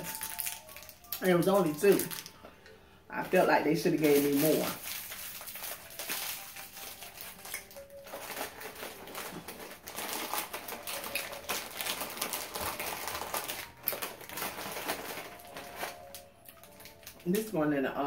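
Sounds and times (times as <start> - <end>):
plastic wrappers crinkling: 0.0 - 2.5, 3.1 - 17.9.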